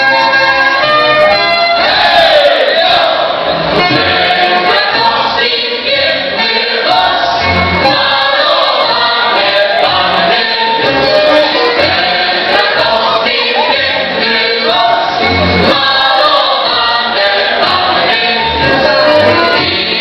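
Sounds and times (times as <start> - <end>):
folk dance band: 0.0 - 20.0
chorus of voices singing: 1.7 - 20.0.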